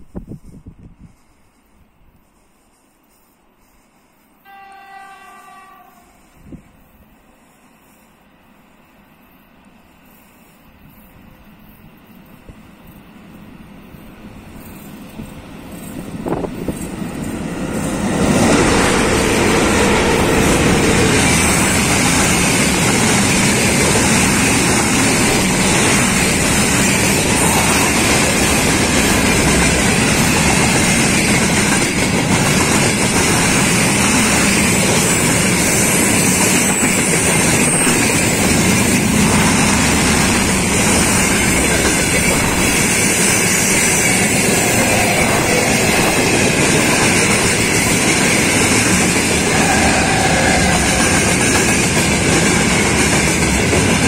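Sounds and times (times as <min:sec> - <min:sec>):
electric locomotive approaching: 0:04.2 - 0:54.0.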